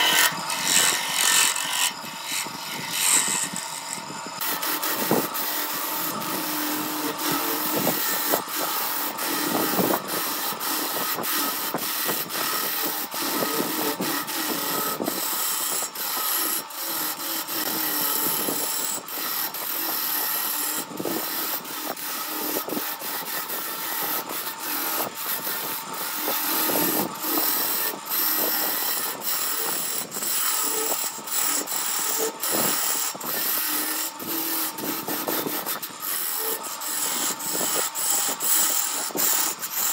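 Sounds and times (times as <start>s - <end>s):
chisel scraping spinning wood: 0.0s - 39.9s.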